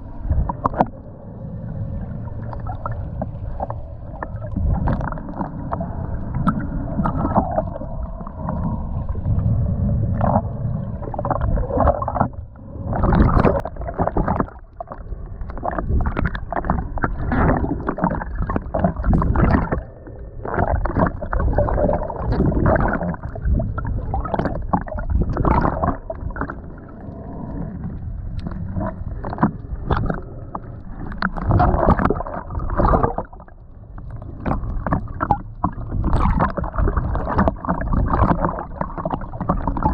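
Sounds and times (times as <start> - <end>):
heavy low rumble: 0.0 - 36.1
muffled water splashing and gurgling: 0.0 - 39.9.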